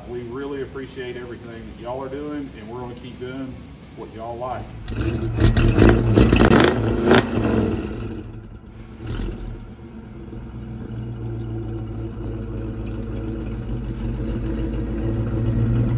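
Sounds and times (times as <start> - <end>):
vehicle engine idling: 0.0 - 15.9.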